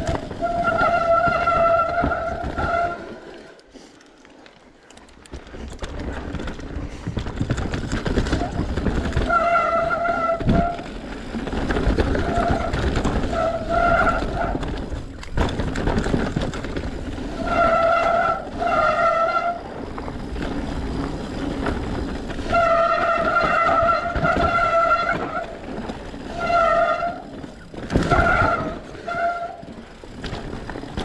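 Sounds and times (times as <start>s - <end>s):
bike chassis rattle: 0.0s - 3.4s, 4.8s - 31.0s
bike tyre rumble: 0.0s - 31.0s.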